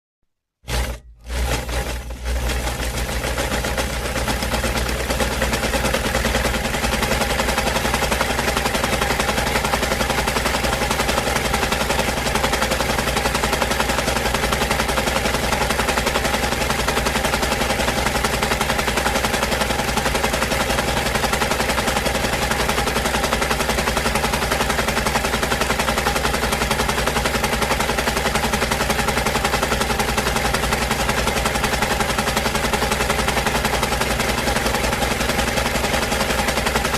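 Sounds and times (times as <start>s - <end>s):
sewing machine running: 0.6s - 36.9s.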